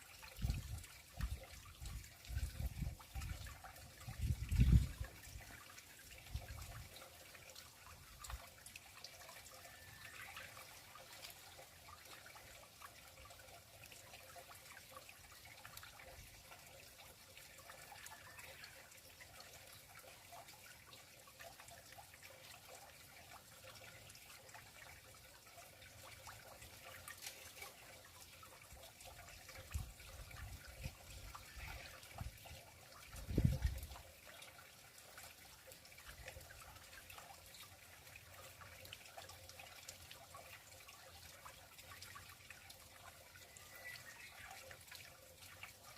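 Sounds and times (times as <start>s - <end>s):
water trickling into pond: 0.0s - 45.9s.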